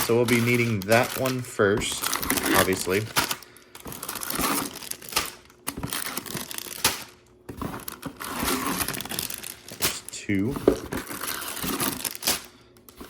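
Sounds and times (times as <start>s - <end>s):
plastic bags crinkling: 0.0s - 12.6s.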